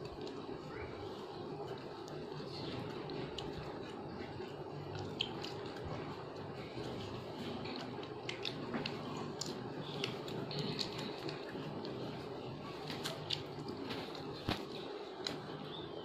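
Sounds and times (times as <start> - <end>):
biscuits crunched and chewed: 0.0 - 15.8
steady background noise: 0.0 - 16.0.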